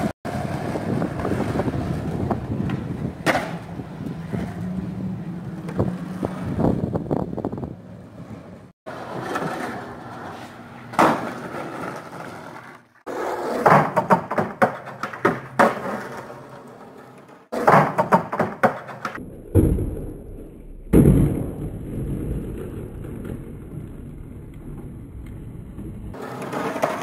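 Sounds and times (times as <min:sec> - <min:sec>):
skateboard clacks: 0:00.0 - 0:04.7, 0:08.9 - 0:20.0, 0:20.9 - 0:27.0
skateboard wheels rolling: 0:00.0 - 0:27.0.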